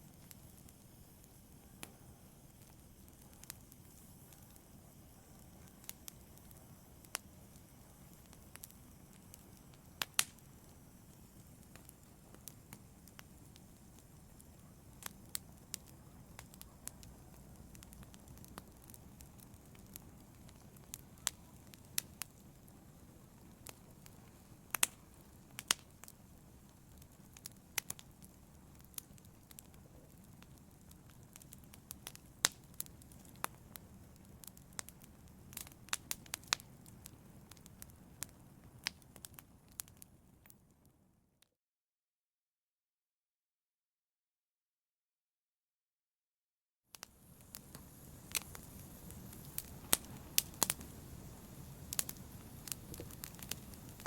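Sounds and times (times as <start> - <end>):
wood fire crackling: 0.0 - 40.9, 47.0 - 54.0.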